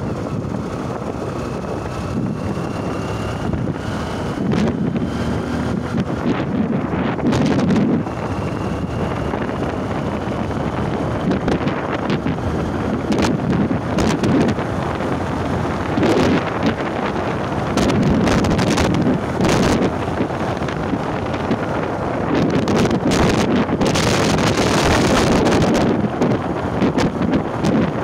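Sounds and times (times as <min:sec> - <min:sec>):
road rumble: 0:00.0 - 0:28.0
wind buffeting microphone: 0:00.0 - 0:28.0.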